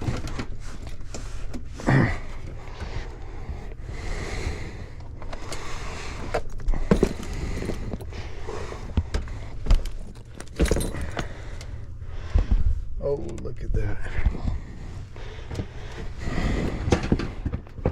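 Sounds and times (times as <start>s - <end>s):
rustling and scraping: 0.0s - 13.4s, 14.1s - 17.9s
steady low hum: 0.0s - 17.9s.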